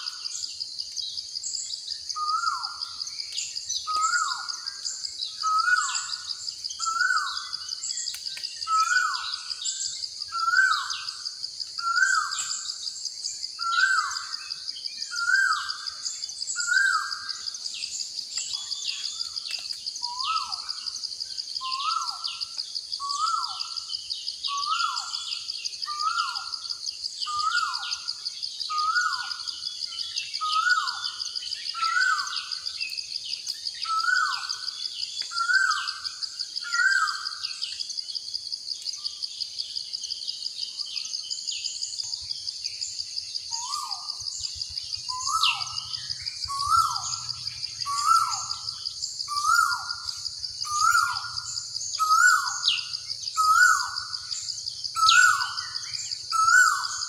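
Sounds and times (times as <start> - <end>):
faint bird chirps: 0.0 - 57.0
pulsing insect trill: 0.0 - 57.0.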